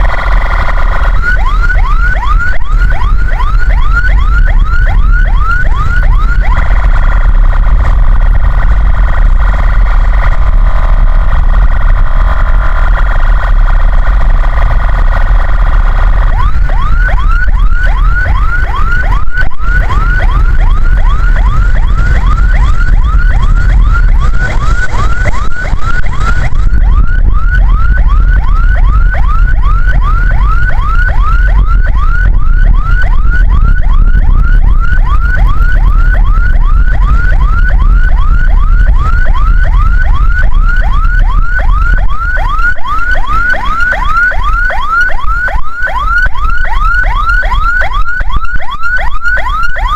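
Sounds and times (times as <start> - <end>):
ambulance siren yelping: 0.0 - 49.9
engine and road rumble: 0.0 - 49.9.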